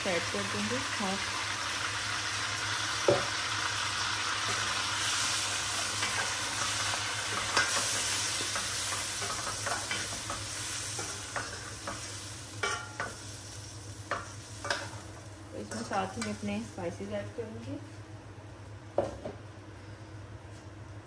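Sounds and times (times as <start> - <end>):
food sizzling in oil: 0.0 - 17.6.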